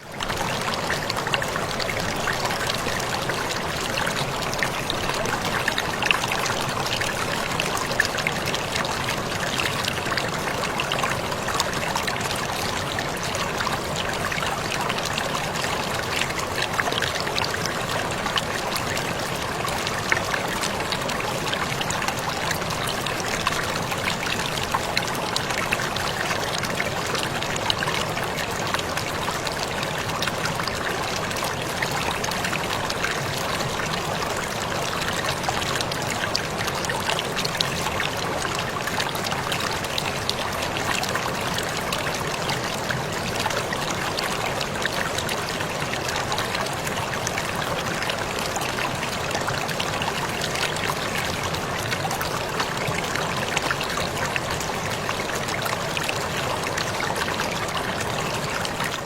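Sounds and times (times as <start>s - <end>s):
waterfall pouring and splashing: 0.0s - 59.0s.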